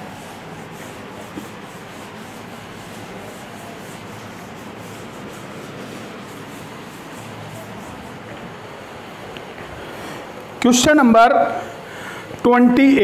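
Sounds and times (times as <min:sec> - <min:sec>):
cloth rubbing on blackboard: 0:00.0 - 0:11.0.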